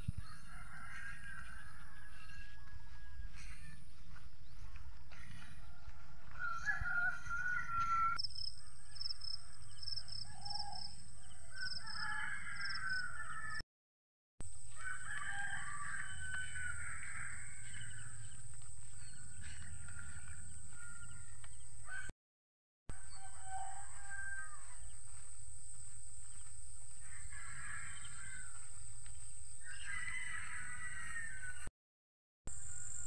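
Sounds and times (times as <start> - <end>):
rooster crowing: 0.1 - 13.6, 14.7 - 22.1, 22.9 - 25.3, 26.3 - 31.7.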